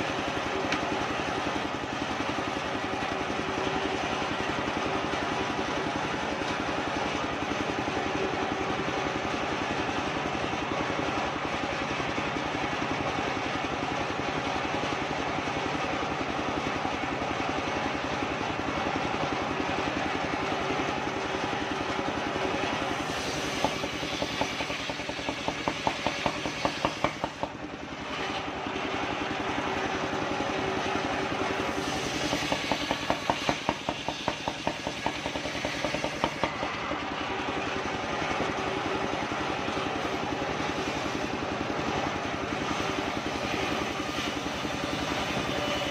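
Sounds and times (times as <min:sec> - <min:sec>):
circular sawmill cutting log: 0:00.0 - 0:45.9.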